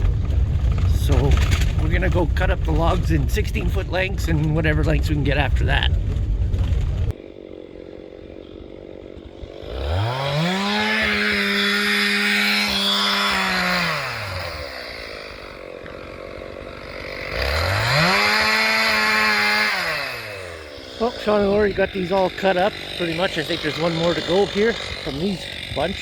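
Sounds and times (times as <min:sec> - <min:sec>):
chainsaw idling and revving: 0:00.0 - 0:26.0.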